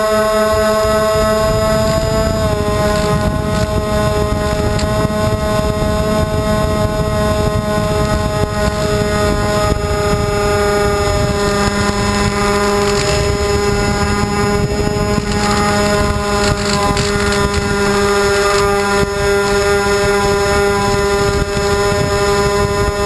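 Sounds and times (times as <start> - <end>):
electric motors high whine: 0.0 - 23.0
wind rushing over microphone: 0.0 - 23.0.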